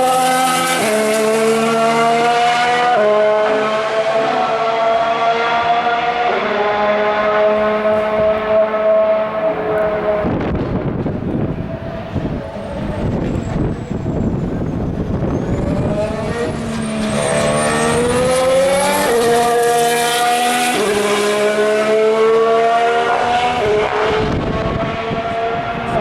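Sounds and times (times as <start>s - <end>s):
racing car engine accelerating past: 0.0s - 10.8s, 11.5s - 26.0s.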